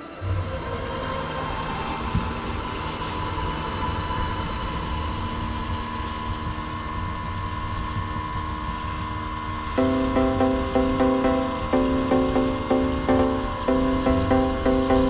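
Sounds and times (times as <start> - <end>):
boat motor droning: 0.2 - 15.0.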